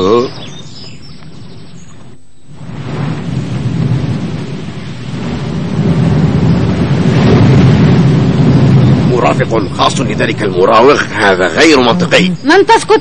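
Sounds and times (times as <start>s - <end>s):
low noisy rumble: 1.4s - 13.0s.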